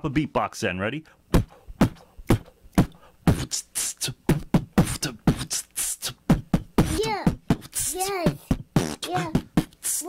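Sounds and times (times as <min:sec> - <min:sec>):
man beatboxing: 0:01.3 - 0:10.0.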